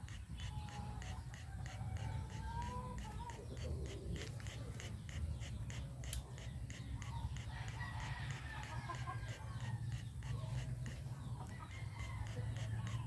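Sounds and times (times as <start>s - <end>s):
chickens clucking: 0.0s - 13.0s
steady low hum: 0.0s - 13.0s.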